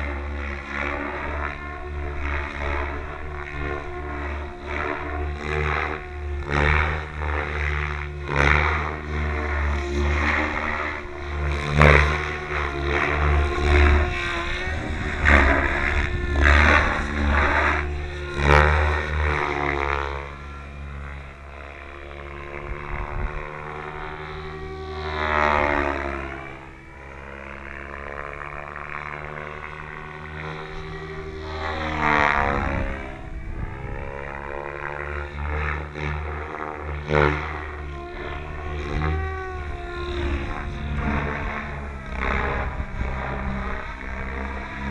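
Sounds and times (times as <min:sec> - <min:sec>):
rc helicopter rotor and motor whine: 0:00.0 - 0:44.9.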